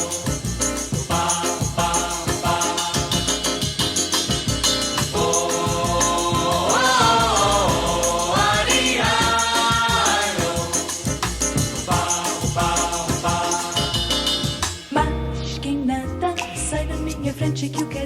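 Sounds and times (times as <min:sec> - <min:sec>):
shaker rhythm: 0:00.0 - 0:15.2.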